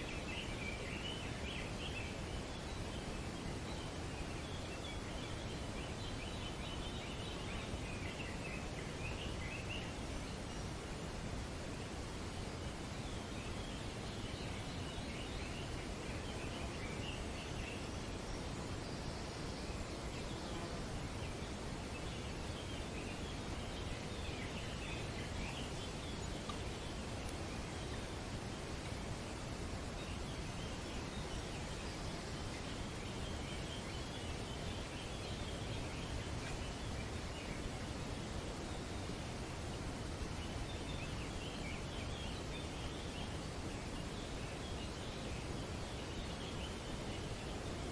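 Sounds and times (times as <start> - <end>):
wind rustling foliage: 0.0 - 47.9.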